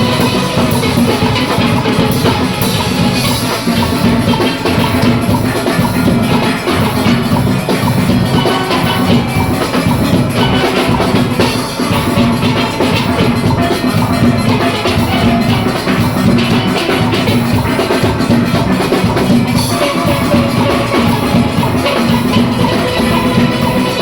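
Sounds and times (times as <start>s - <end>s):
drum kit and percussion: 0.0s - 24.0s
steelpans playing melody: 0.0s - 24.0s.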